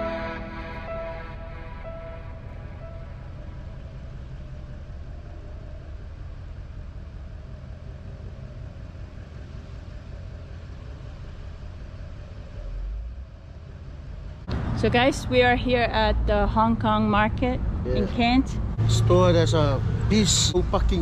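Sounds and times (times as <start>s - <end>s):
car engine and road noise hum: 0.0s - 21.0s.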